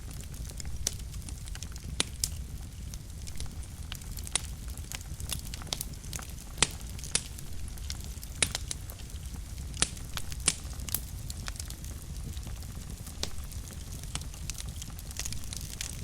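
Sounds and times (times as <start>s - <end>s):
logs crackling and popping: 0.0s - 16.0s
wood fire rumbling: 0.0s - 16.0s.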